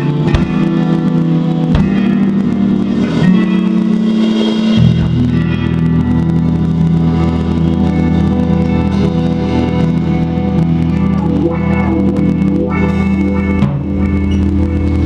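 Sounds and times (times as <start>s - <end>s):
electric guitar chords ringing: 0.0s - 15.0s.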